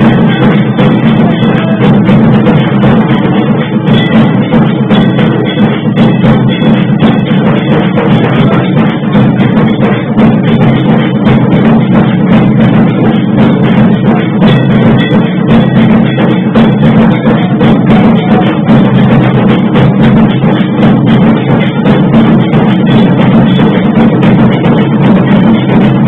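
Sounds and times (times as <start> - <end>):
loud music with dense drumming: 0.0 - 26.0.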